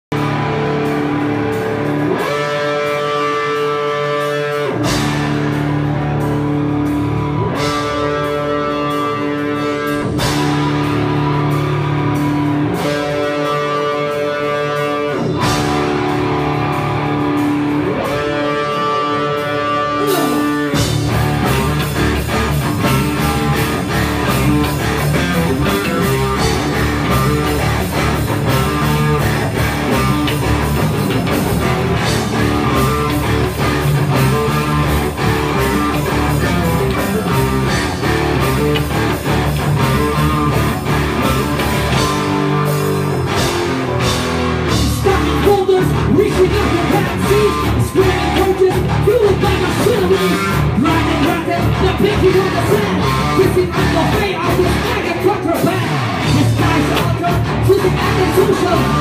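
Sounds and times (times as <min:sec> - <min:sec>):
electric guitar chords: 0:00.0 - 0:59.0
rock band with drums: 0:00.0 - 0:59.0.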